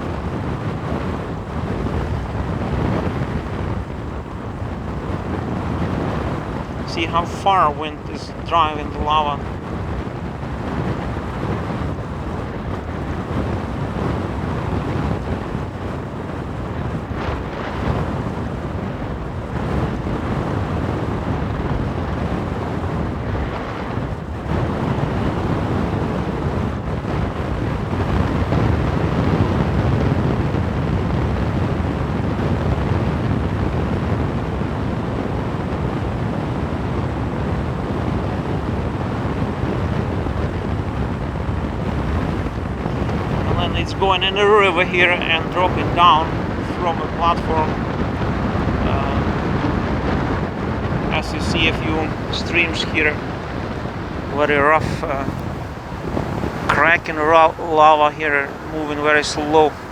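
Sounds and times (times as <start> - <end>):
gusty wind on microphone: 0.0 - 59.9.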